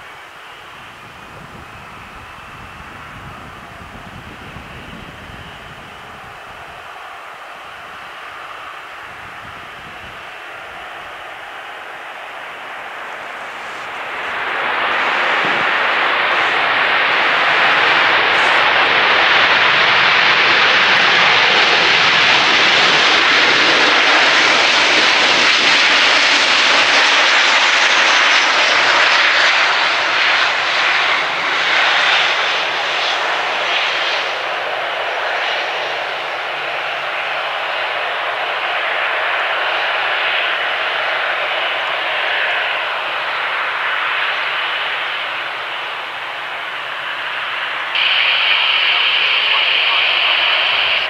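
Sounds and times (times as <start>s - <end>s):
jet engines roaring: 0.0s - 51.0s.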